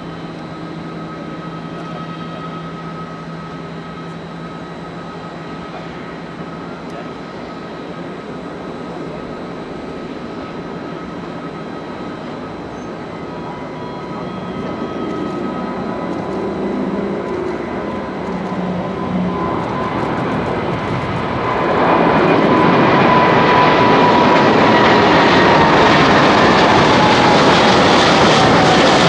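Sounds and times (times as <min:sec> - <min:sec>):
jet engines at takeoff: 0:00.0 - 0:29.0.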